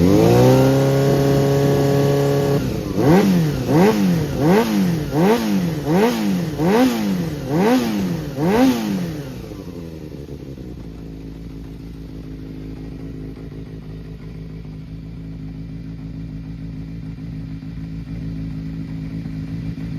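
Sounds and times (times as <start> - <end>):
motorcycle engine idling: 0.0 - 19.9
motorcycle engine throttle blip: 1.3 - 19.9.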